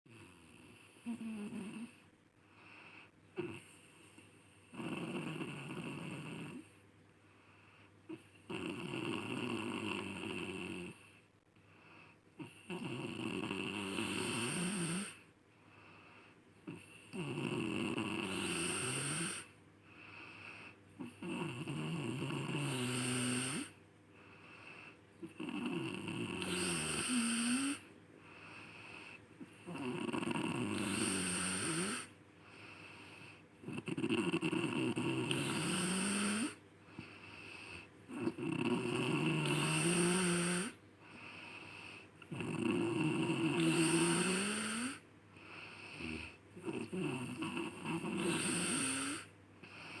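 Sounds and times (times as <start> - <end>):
person snoring: 0.1 - 2.0, 3.4 - 6.8, 8.1 - 11.1, 12.4 - 15.3, 16.7 - 19.5, 20.1 - 23.8, 24.4 - 50.0.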